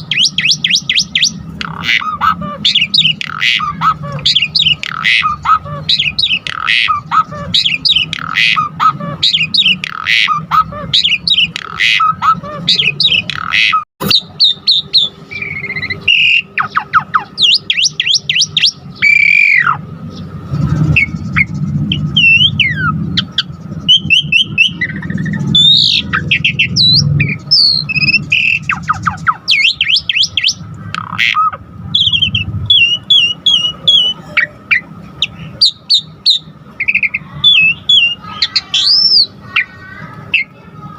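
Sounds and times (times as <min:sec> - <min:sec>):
starling singing varied song: 0:00.0 - 0:40.9.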